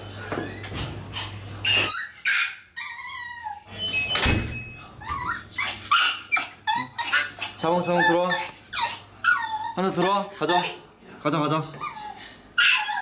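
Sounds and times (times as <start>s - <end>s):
dogs whining and yipping: 0.0s - 4.2s, 5.0s - 10.8s, 11.7s - 13.0s.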